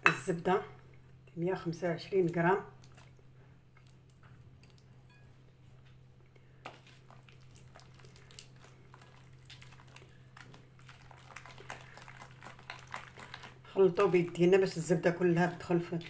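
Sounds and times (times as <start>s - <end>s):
low steady hum: 0.0s - 16.0s
butter squishing in a bowl: 0.7s - 16.0s.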